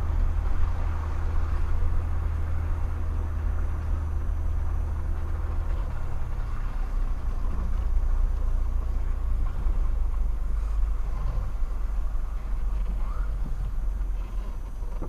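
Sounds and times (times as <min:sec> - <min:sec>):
engine and drivetrain rumble: 0:00.0 - 0:15.0.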